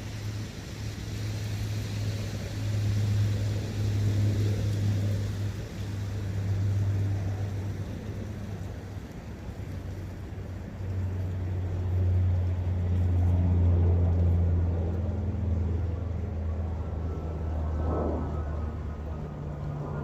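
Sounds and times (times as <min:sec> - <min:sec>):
passing motor engine drone: 0:00.0 - 0:20.0
soft outdoor noise: 0:00.0 - 0:20.0.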